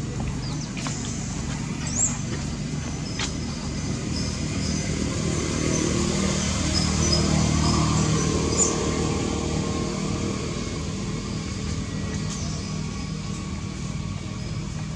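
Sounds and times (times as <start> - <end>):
motor engine humming: 0.0 - 14.9.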